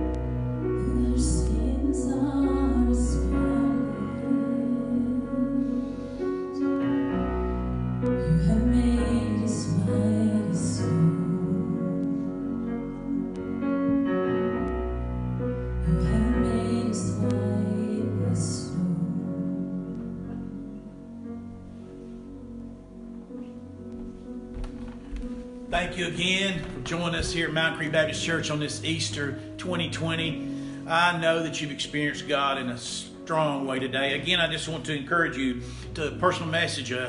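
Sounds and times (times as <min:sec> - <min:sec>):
soft slow music: 0:00.0 - 0:37.0.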